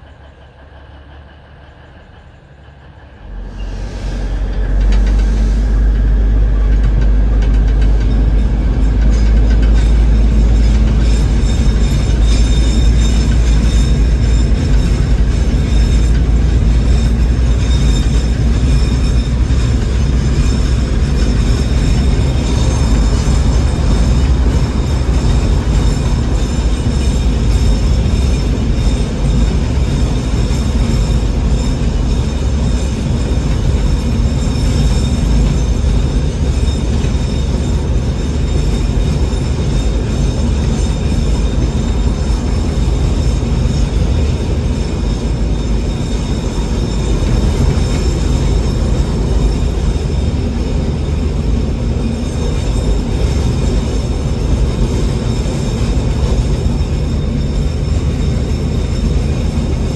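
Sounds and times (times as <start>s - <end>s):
high-pitched whine: 0.0s - 59.9s
train rumbling: 0.0s - 59.9s.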